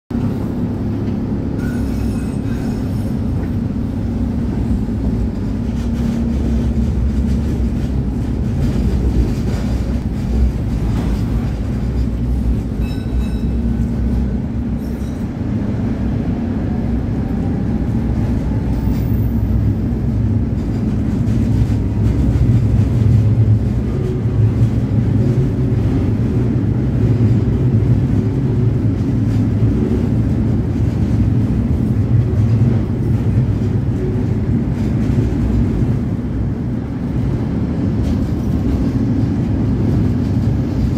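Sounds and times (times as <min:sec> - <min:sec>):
tram wheels rumbling on track: 0:00.1 - 0:40.9.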